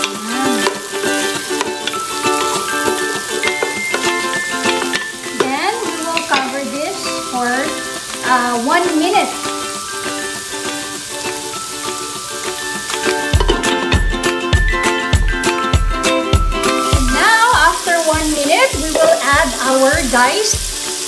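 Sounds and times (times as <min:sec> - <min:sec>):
background music with gliding melody: 0:00.0 - 0:21.0
vegetables sizzling in a pot: 0:00.0 - 0:21.0.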